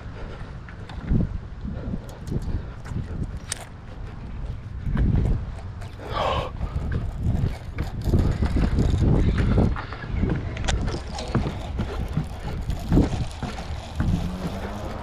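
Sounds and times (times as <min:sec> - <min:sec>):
rod and reel handling noise: 0:02.0 - 0:09.6, 0:10.6 - 0:15.0.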